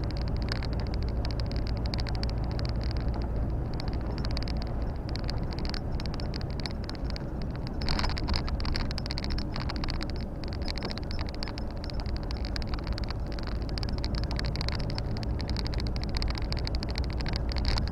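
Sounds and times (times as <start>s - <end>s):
diesel truck engine drone: 0.0s - 17.9s
road noise: 0.0s - 17.9s
ticking and rattling in cab: 0.0s - 17.9s.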